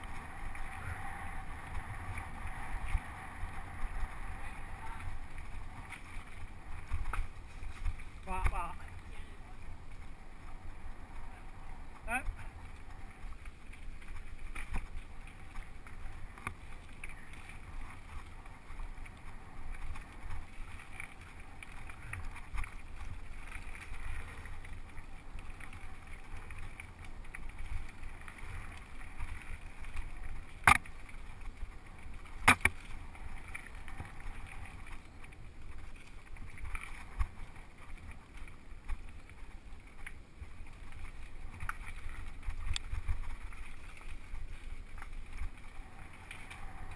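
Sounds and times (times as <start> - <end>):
wind and tyre rumble: 0.0 - 46.9.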